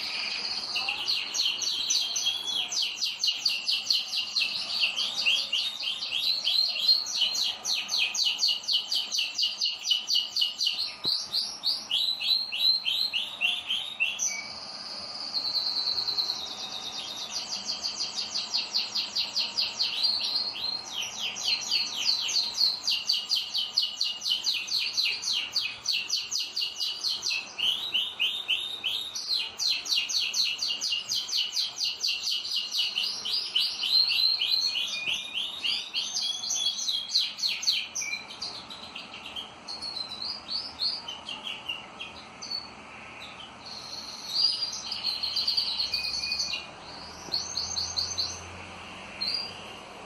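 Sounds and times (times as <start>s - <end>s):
canaries singing: 0.0s - 50.0s.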